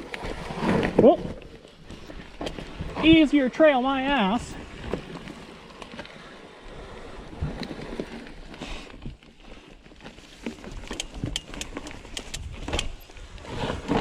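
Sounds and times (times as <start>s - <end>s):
bike clicks and rattles: 0.0s - 14.0s
bike tyres on dirt: 0.0s - 14.0s.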